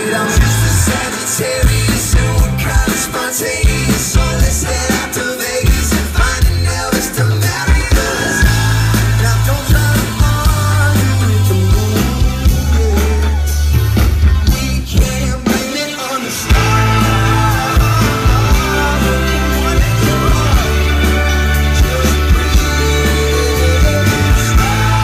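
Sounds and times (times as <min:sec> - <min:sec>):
live pop-rock band playing: 0:00.0 - 0:25.0
person singing: 0:00.0 - 0:25.0.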